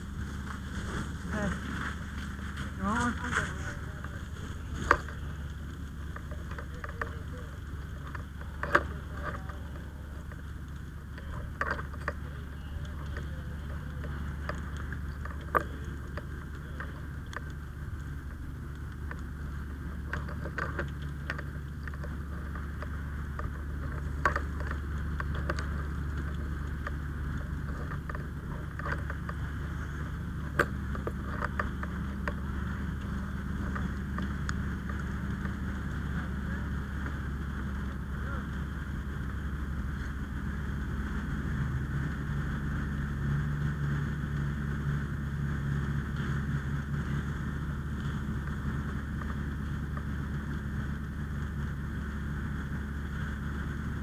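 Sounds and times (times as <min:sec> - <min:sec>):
engine humming: 0:00.0 - 0:54.0.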